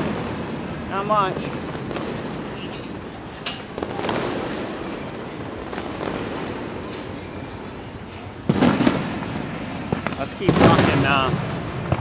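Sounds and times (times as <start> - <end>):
fireworks bangs: 0.0 - 12.0
background din: 1.0 - 12.0.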